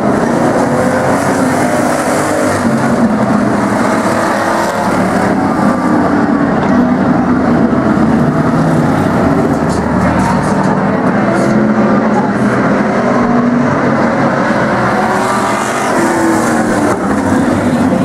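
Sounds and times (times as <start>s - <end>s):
race car engines running: 0.0s - 18.0s.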